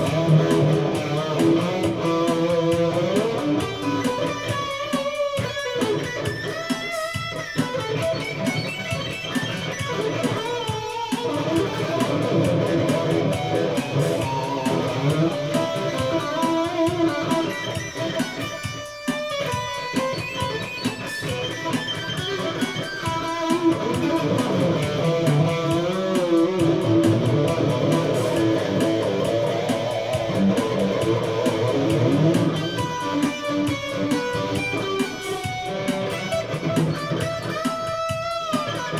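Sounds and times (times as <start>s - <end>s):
drum machine beat: 0.0s - 38.9s
electric guitar playing: 0.0s - 38.9s.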